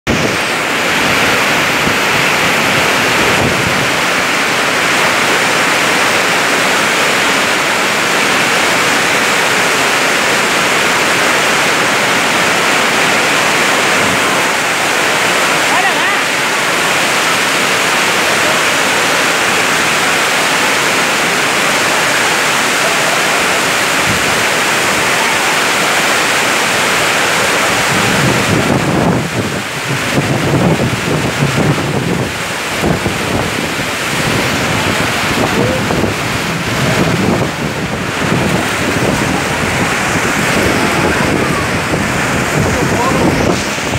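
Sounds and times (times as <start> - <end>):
wind gusts buffeting microphone: 0.1 - 20.1, 23.5 - 43.9
torrential rain hissing: 0.1 - 43.9.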